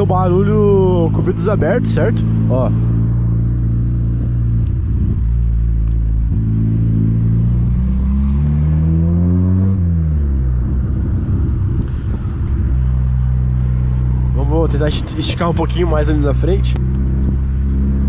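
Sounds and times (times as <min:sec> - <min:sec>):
car engine and exhaust droning: 0:00.0 - 0:18.0.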